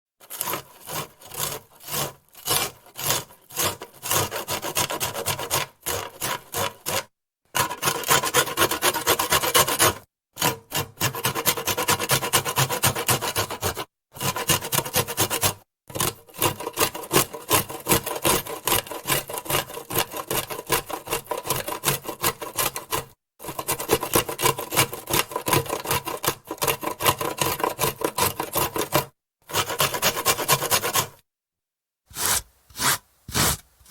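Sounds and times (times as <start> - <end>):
carrot scraping on metal grater: 0.2 - 31.2, 32.1 - 33.9.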